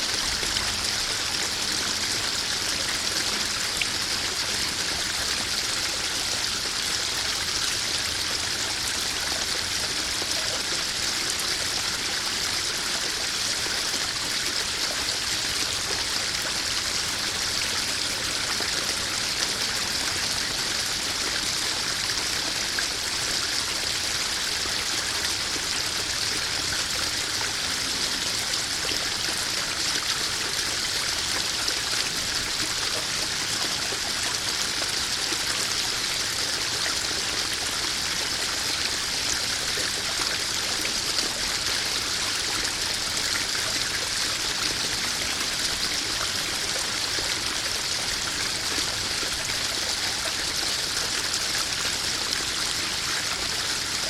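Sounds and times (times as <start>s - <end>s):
waterfall splashing into pond: 0.0s - 54.0s.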